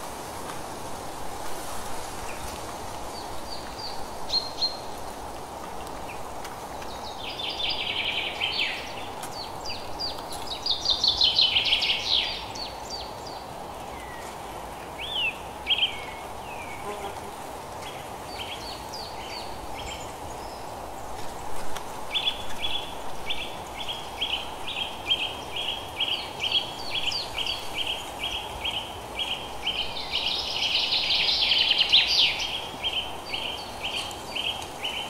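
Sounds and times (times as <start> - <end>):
outdoor background hiss: 0.0 - 35.0
songbirds singing: 2.2 - 35.0.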